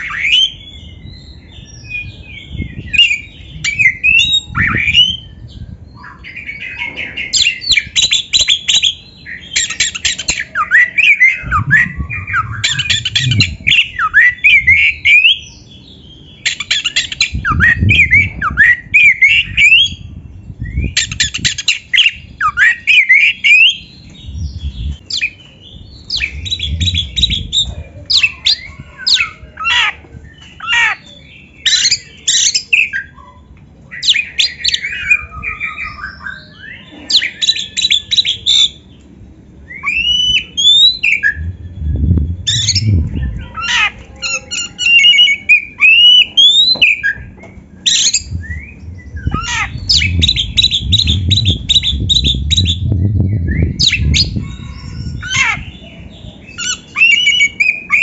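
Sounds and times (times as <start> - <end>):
bird singing varied song: 0.0 - 58.0.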